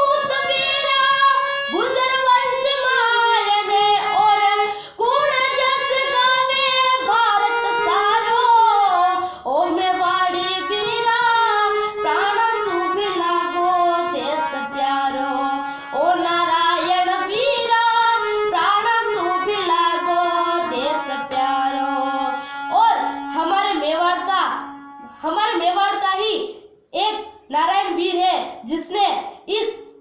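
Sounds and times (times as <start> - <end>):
girl singing: 0.0 - 30.0.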